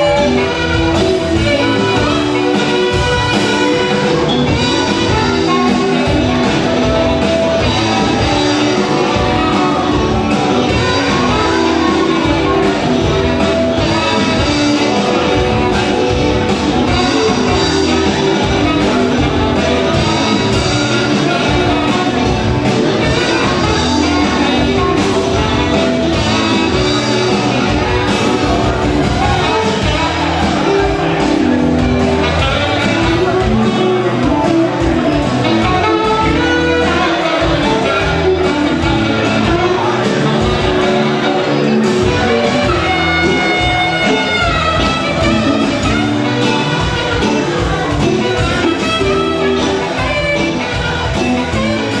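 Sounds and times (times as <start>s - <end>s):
drum kit: 0.0s - 52.0s
electric guitars: 0.0s - 52.0s
person singing: 0.0s - 52.0s
saxophone: 0.0s - 52.0s.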